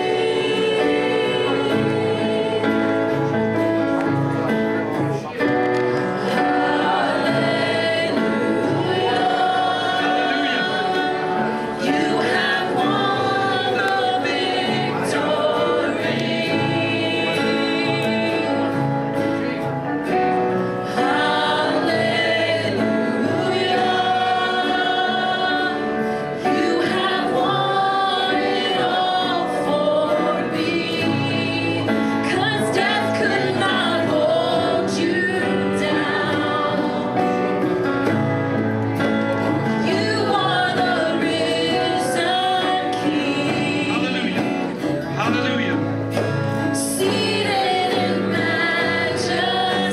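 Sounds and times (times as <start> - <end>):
instrumental backing: 0.0 - 49.9
voices singing worship song: 0.0 - 49.9.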